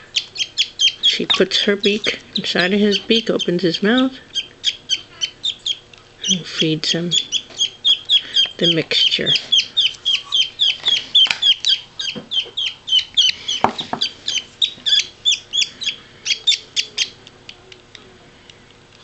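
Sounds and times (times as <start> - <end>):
parakeet chicks cheeping: 0.0 - 17.2.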